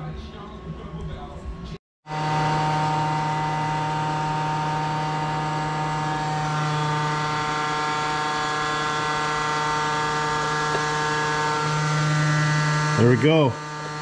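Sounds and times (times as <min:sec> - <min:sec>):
shop machinery humming: 0:01.4 - 0:14.0.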